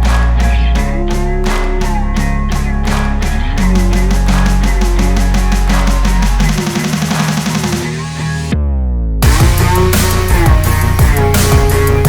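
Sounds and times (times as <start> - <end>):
electronic beat music: 0.0 - 8.6, 9.2 - 12.0.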